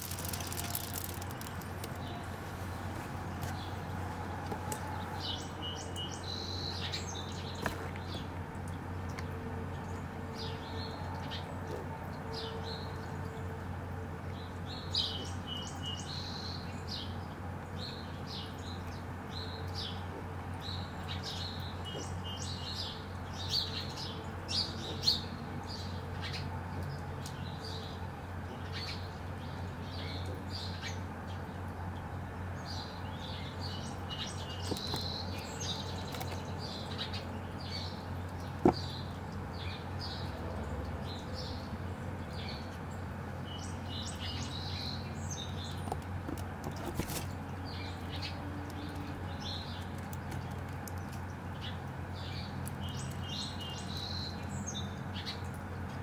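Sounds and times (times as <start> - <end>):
small birds chirping: 0.0 - 11.8, 14.2 - 56.0.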